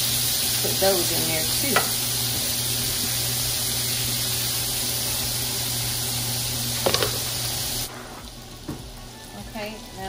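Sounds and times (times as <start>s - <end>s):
shrimp sizzling in a skillet: 0.0s - 10.0s.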